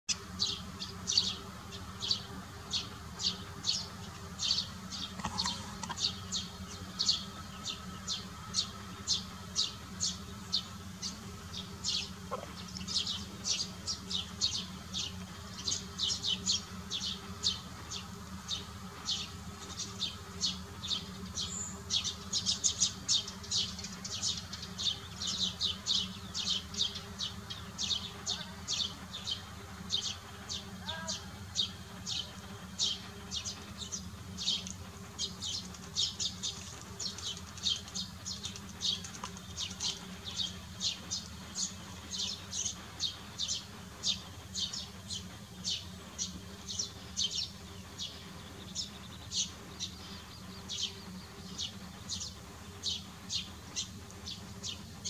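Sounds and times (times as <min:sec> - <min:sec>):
bird chirping: 0:00.1 - 0:55.0
faint low hum: 0:00.1 - 0:55.0.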